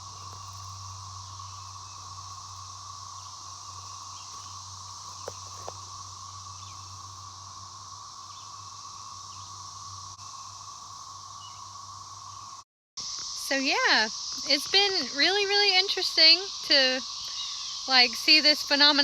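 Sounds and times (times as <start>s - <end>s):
cicadas whirring: 0.0s - 19.0s.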